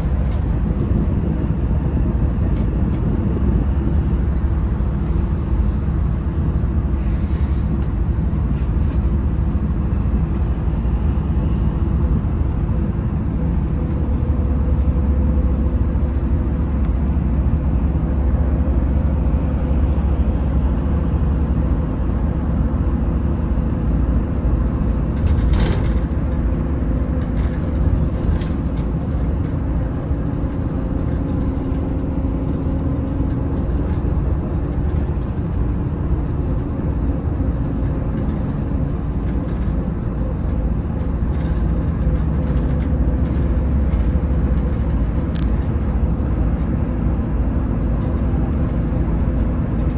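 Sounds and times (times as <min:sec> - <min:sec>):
coach diesel engine running: 0:00.0 - 0:49.9
road rumble: 0:00.0 - 0:49.9.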